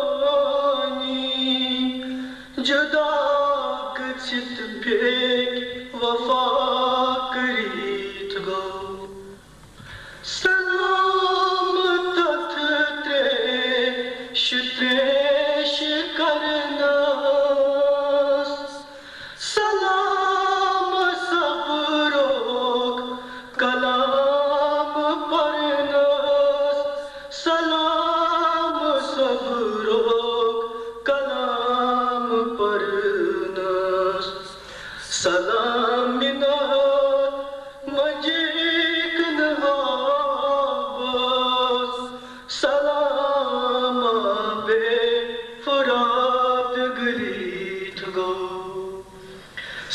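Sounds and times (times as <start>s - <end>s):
man chanting: 0.0s - 9.4s, 10.3s - 49.2s.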